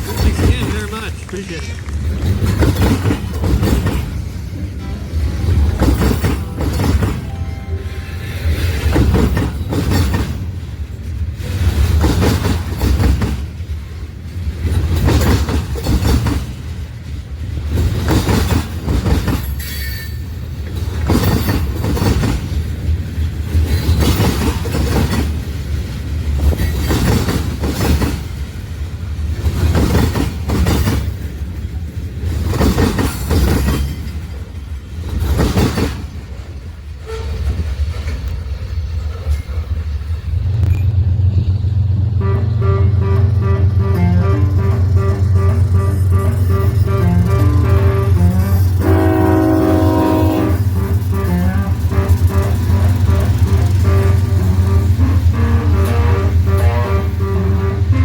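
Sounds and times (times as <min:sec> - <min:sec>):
steam locomotive rumble and beats: 0:00.0 - 0:58.0.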